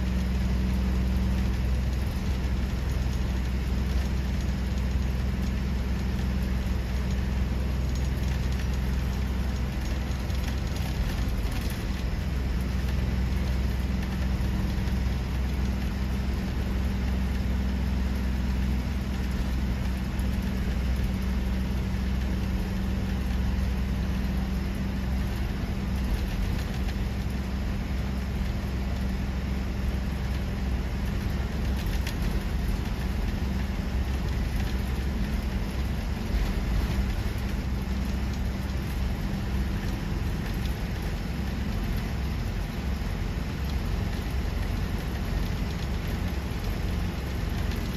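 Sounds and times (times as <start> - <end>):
bus engine drone: 0.0 - 47.9.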